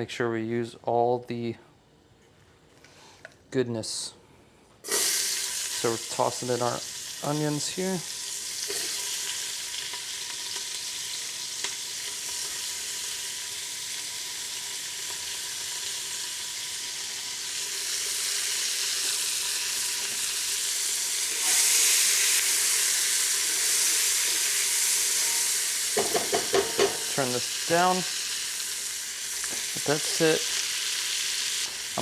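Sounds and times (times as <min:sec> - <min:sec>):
onions sizzling in a pan: 0:04.9 - 0:32.0.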